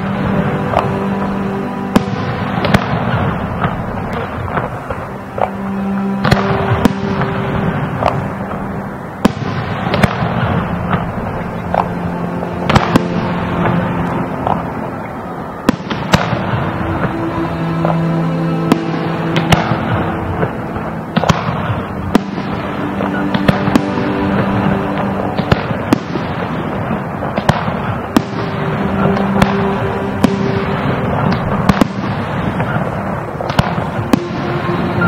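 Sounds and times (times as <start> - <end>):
firework crackling: 0.0 - 35.0
music with long held notes: 0.0 - 35.0.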